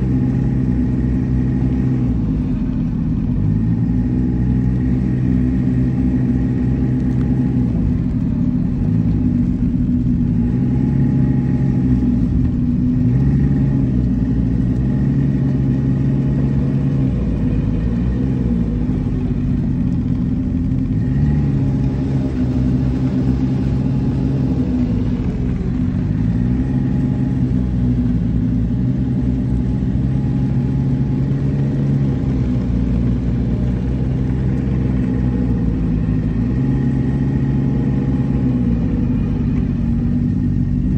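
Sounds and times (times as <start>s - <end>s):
snowmobile engine running: 0.0s - 40.9s.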